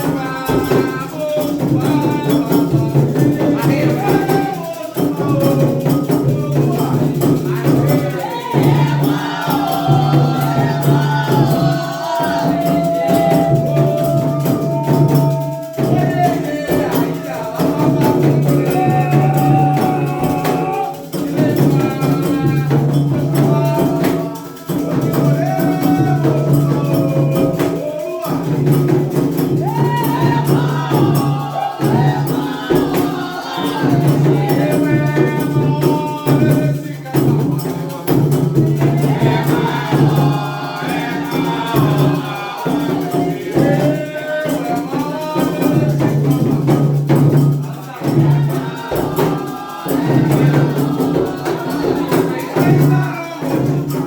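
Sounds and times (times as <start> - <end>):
hand percussion: 0.0 - 54.0
shaken rattles: 0.0 - 54.0
voices singing a chant: 0.0 - 54.0.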